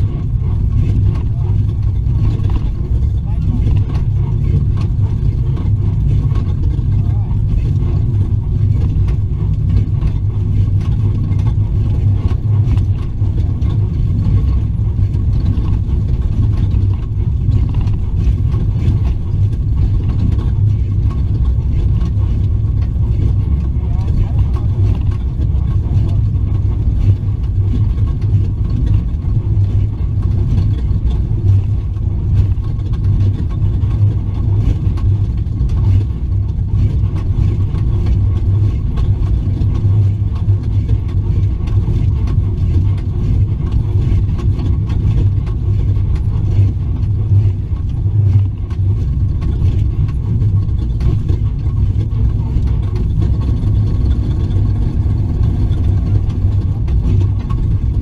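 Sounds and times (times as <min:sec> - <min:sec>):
truck engine rumble: 0:00.0 - 0:58.0.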